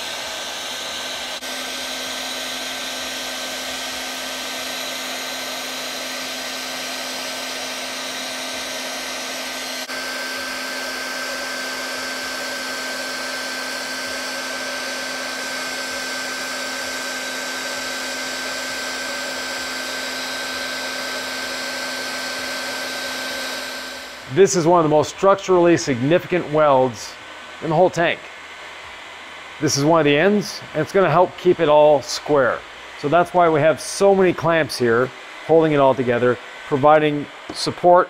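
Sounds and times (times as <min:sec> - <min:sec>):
hot-air welding gun blower whirring: 0:00.0 - 0:38.0.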